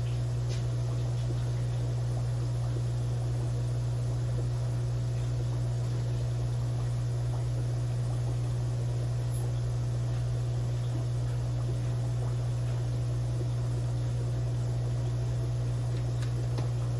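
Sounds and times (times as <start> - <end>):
aquarium equipment humming: 0.0 - 16.9.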